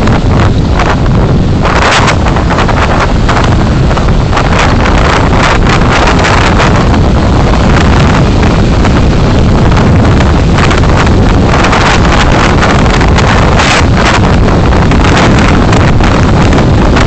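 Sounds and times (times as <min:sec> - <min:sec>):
wind and road noise: 0:00.0 - 0:17.0
wind buffeting microphone: 0:00.0 - 0:17.0.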